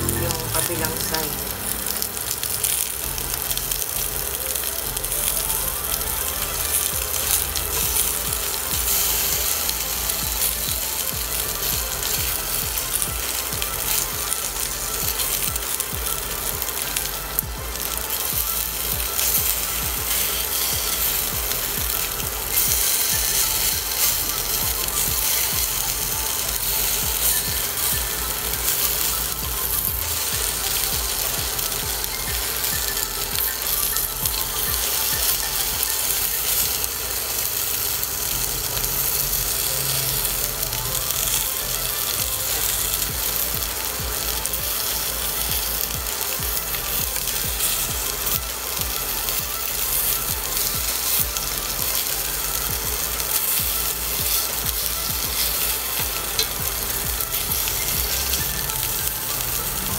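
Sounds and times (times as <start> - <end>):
meat sizzling in hot oil: 0.0 - 59.9.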